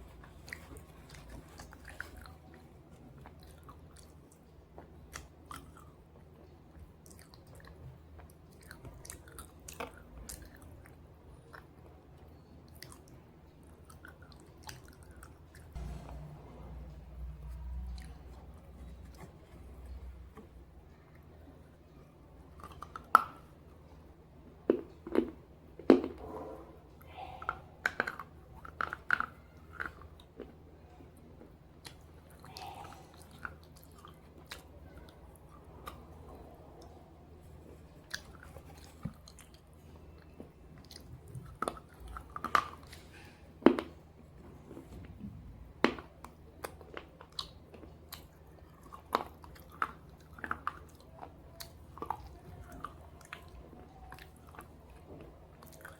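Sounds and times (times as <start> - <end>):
soft chewing: 0.0 - 55.9.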